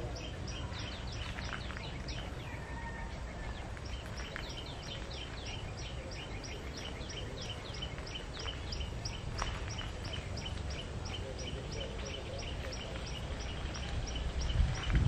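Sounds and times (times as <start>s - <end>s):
bird chirping: 0.0s - 15.0s
low outdoor hum: 0.0s - 15.0s.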